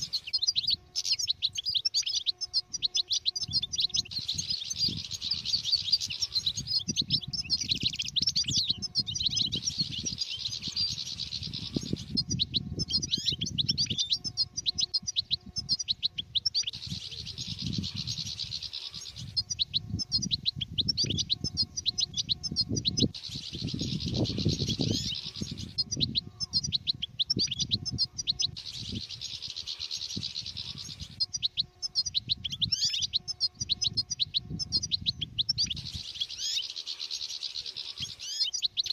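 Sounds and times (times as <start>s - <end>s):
goldfinch twittering: 0.0s - 38.9s.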